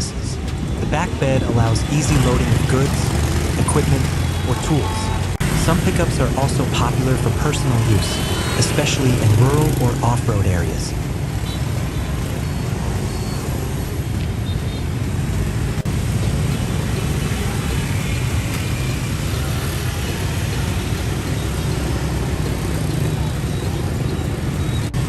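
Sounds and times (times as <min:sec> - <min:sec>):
road traffic noise: 0:00.0 - 0:25.0
vehicle engine low rumble: 0:00.0 - 0:25.0.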